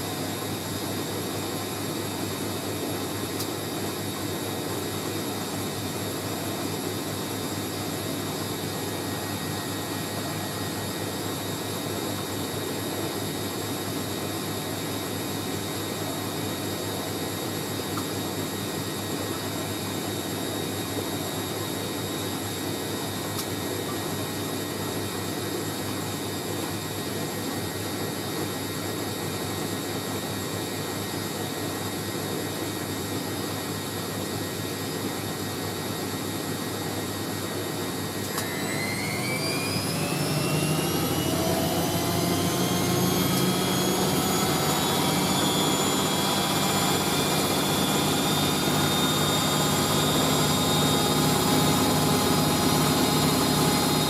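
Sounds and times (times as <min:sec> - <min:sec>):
washing machine spin whine: 0:00.0 - 0:54.0.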